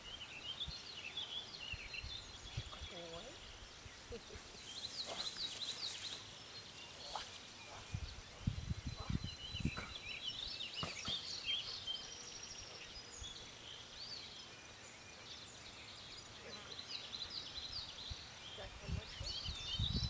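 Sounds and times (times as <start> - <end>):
background hiss: 0.0 - 20.0
birds chirping: 0.0 - 20.0.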